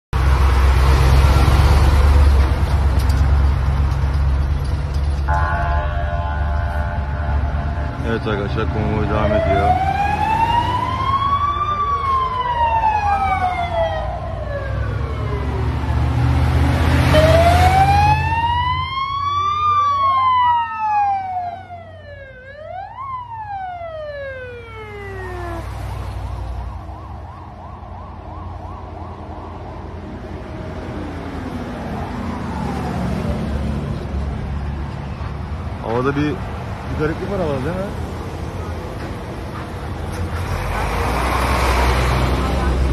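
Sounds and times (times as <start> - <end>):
truck engines rumbling: 0.1 - 42.9
fire engine sirens wailing: 0.3 - 35.2, 35.8 - 42.9.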